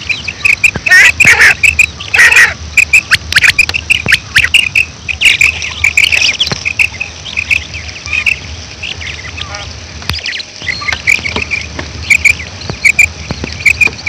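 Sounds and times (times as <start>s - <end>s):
quail chirping calls: 0.0s - 14.0s.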